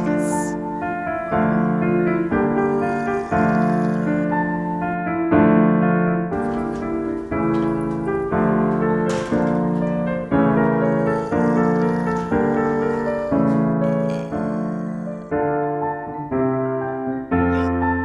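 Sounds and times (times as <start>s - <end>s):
piano playing sustained chords: 0.0s - 18.0s.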